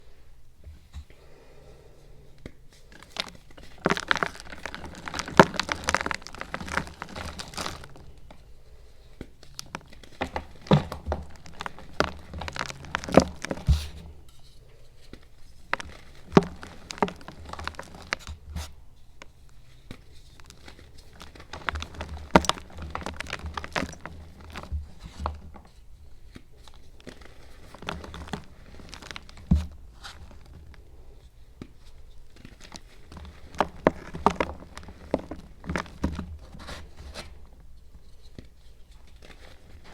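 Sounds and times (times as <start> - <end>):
crinkly material crumpling and crackling: 2.6 - 39.9.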